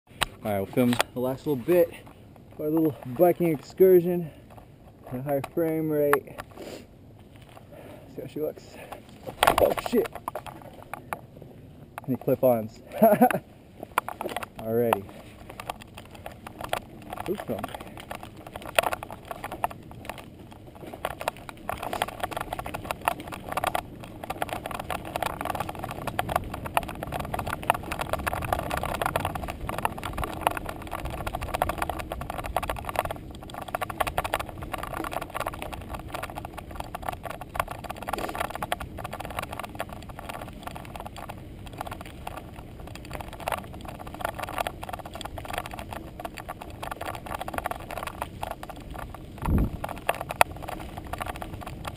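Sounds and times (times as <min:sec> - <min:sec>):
bike rattling over bumps: 0:00.1 - 0:51.9
tyres crunching on gravel: 0:00.2 - 0:51.9.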